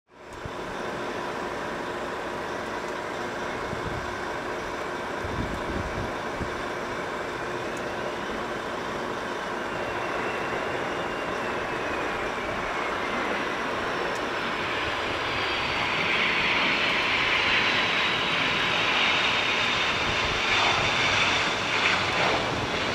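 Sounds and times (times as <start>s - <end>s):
high jet whine: 0.2s - 22.9s
jet engine rush: 0.2s - 22.9s.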